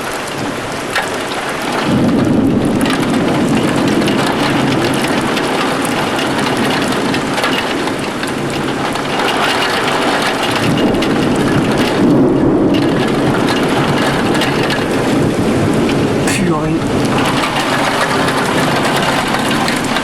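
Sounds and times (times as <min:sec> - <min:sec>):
heavy rain falling: 0:00.0 - 0:20.0
raindrops hitting a surface: 0:00.0 - 0:20.0.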